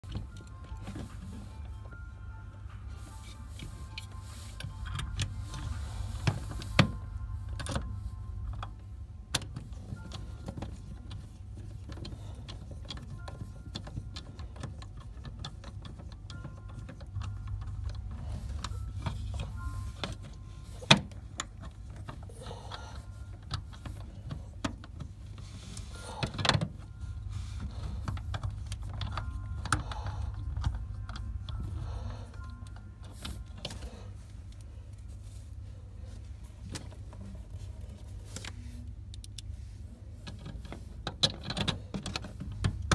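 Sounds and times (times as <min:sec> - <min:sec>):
low steady rumble: 0:00.0 - 0:42.9.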